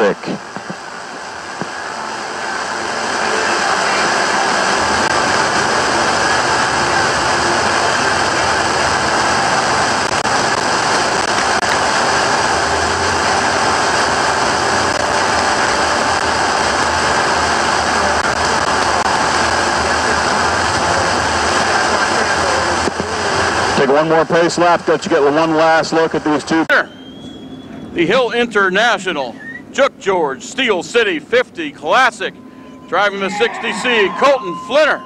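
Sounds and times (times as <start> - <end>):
race car engines roaring: 0.0 - 26.9, 27.5 - 35.0.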